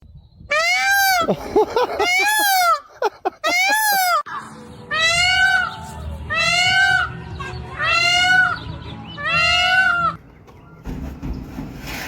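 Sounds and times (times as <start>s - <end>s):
peacock wailing calls: 0.5s - 10.2s.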